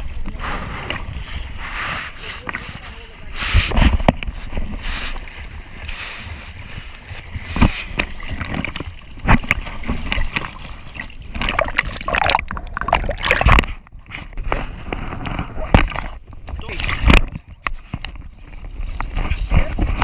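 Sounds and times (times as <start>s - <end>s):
water splashing around raft: 0.0s - 20.0s.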